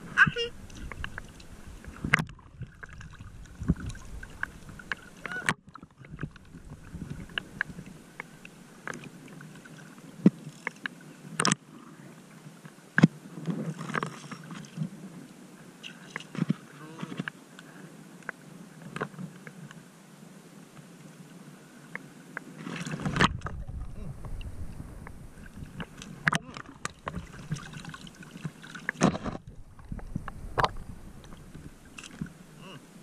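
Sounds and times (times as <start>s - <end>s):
sea water lapping and splashing: 0.0s - 18.0s, 21.8s - 33.0s.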